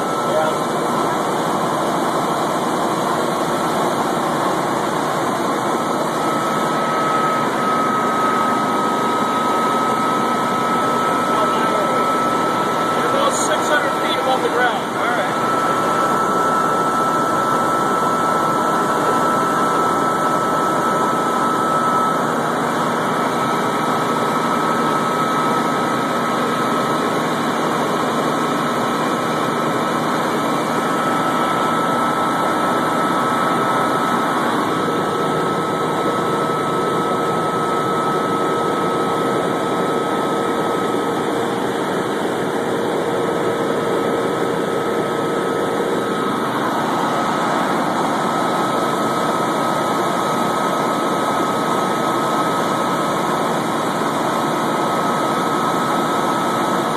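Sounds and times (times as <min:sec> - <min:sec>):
helicopter engine and rotor drone: 0:00.0 - 0:56.9
high whine: 0:00.0 - 0:56.9.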